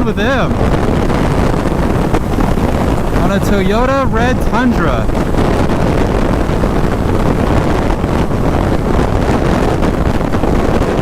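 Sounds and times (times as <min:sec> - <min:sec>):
motorcycle road and engine noise: 0:00.0 - 0:11.0
wind rush on microphone: 0:00.0 - 0:11.0.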